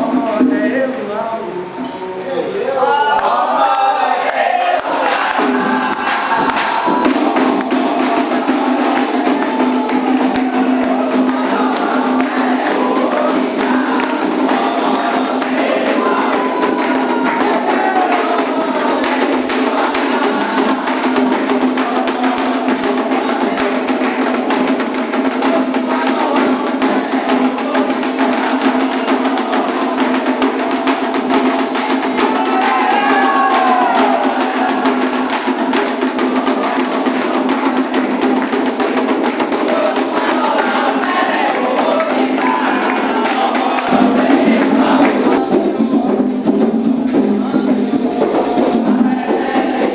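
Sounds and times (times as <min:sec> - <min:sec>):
voices singing: 0:00.0 - 0:49.9
fast hand drumming: 0:03.2 - 0:49.9
woody clacking beat: 0:03.2 - 0:49.9.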